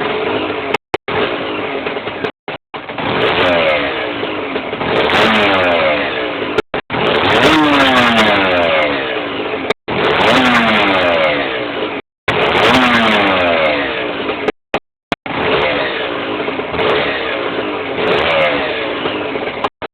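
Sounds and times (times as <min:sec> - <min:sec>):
two-stroke engine revving: 0:00.0 - 0:19.9.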